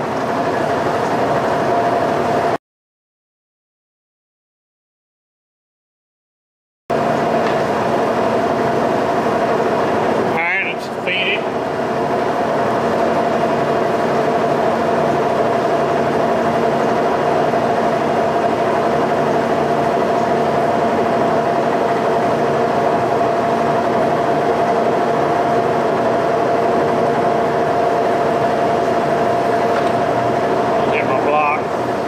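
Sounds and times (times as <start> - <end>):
machine hum with steady whine: 0.0 - 2.6, 6.9 - 32.0.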